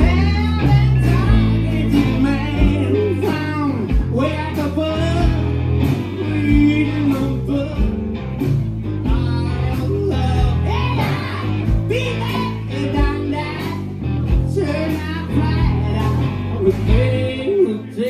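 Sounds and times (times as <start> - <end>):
man singing into a microphone: 0.0 - 8.2, 9.0 - 18.0
live rock band playing: 0.0 - 18.0.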